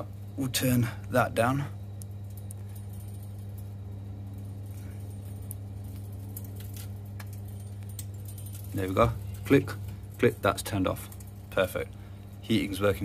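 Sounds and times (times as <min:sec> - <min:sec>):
boiler burner humming: 0:00.0 - 0:13.0.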